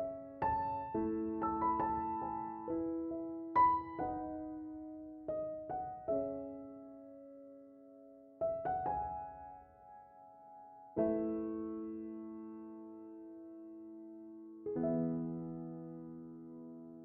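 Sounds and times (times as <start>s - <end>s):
calm slow piano music: 0.0s - 17.0s.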